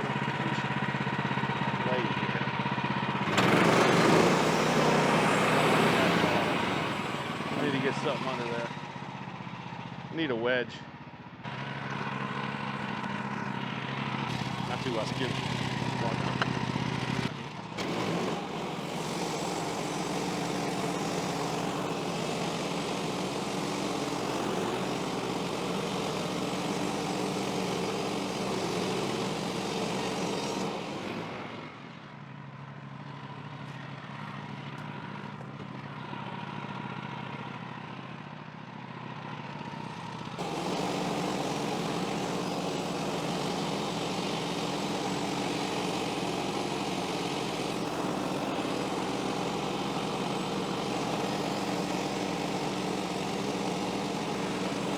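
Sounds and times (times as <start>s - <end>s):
sawmill gas engine running: 0.0s - 54.9s.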